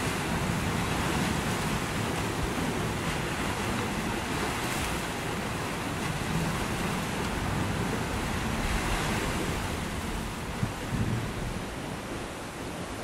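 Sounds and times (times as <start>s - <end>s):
ocean waves washing onto beach: 0.0s - 13.0s
wind rumble on microphone: 0.0s - 13.0s.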